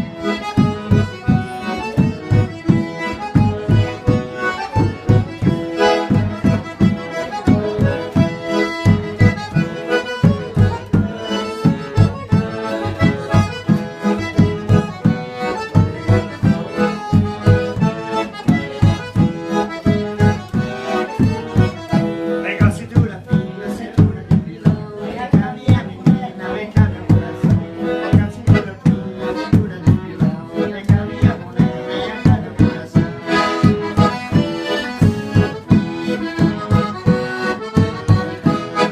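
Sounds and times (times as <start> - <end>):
accordion music: 0.0 - 38.9
steady beat: 0.0 - 38.9.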